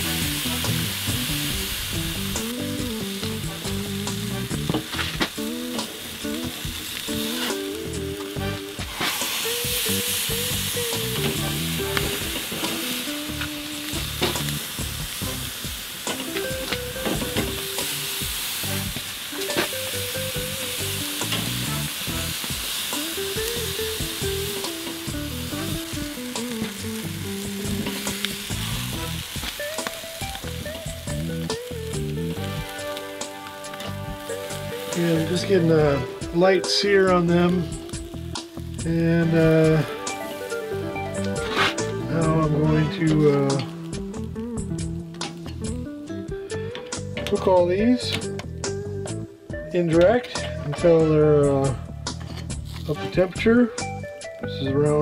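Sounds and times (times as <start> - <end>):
meat sizzling on grill: 0.0 - 47.0, 51.6 - 53.2
soft background melody: 0.0 - 55.0.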